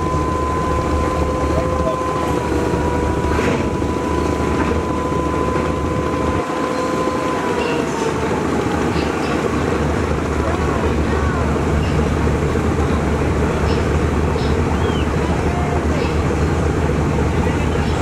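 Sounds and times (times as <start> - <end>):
boat engines rumbling: 0.0 - 18.0
thin steady whine: 0.0 - 18.0.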